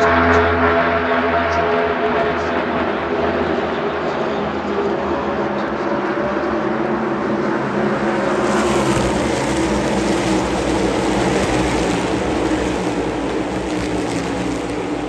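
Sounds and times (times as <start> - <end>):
race cars passing by: 2.6 - 15.0.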